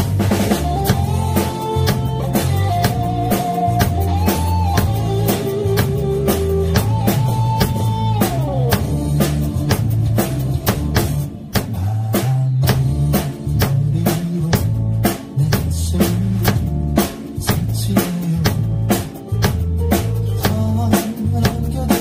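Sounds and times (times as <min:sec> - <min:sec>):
backing music with bass: 0:00.0 - 0:22.0
drum kit playing a groove: 0:00.0 - 0:22.0.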